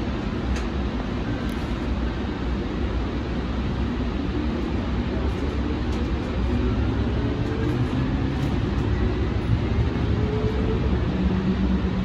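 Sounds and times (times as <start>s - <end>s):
rumble of train wheels and motors: 0.0s - 12.0s.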